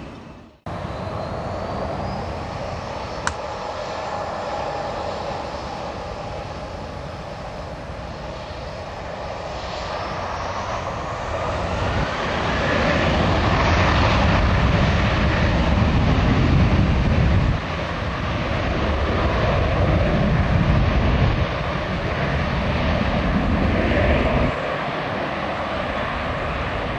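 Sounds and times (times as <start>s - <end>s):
jet airliner passing by: 0.0s - 26.9s.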